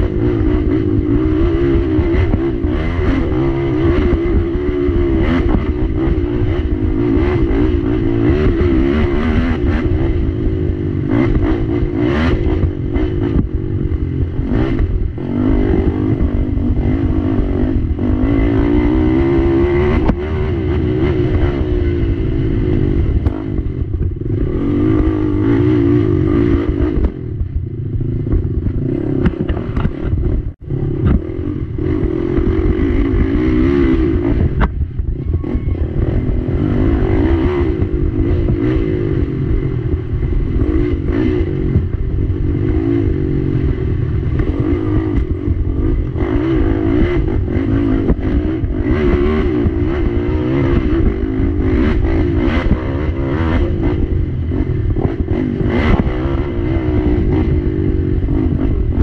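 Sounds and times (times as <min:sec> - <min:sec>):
chassis clattering over bumps: 0:00.0 - 0:59.0
quad bike engine revving: 0:00.0 - 0:59.0.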